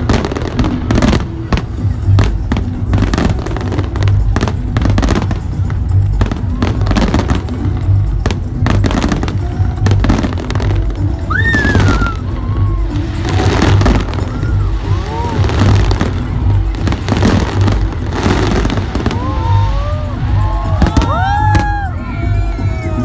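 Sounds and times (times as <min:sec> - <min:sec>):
fireworks bangs and crackles: 0:00.0 - 0:23.0
music with pulsing bass: 0:00.0 - 0:23.0.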